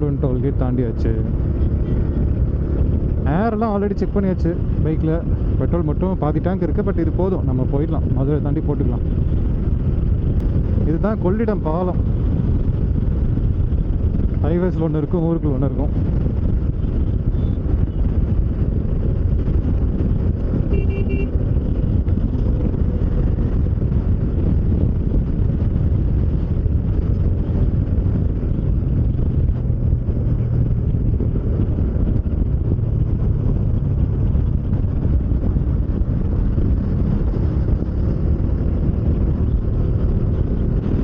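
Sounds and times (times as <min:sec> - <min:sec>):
motorcycle engine and tyre rumble: 0:00.0 - 0:41.0
wind rushing on microphone: 0:00.0 - 0:41.0.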